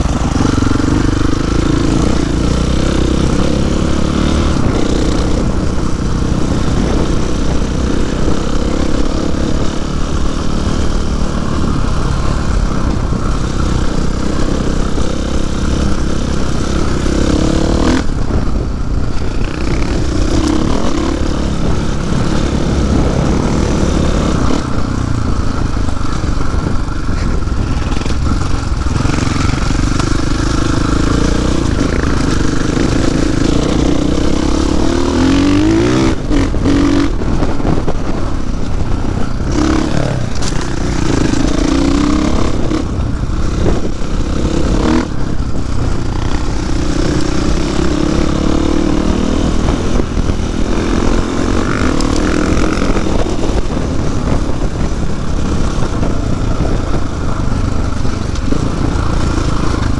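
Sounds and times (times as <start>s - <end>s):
dirt bike engine revving: 0.0s - 59.9s
wind noise on microphone: 0.0s - 59.9s.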